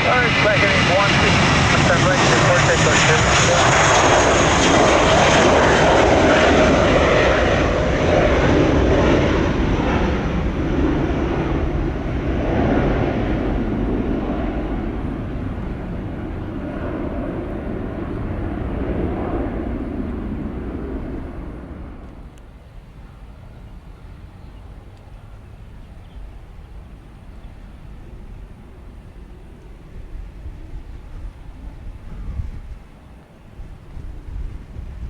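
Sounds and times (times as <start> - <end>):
jet airliner engines: 0.0 - 35.0.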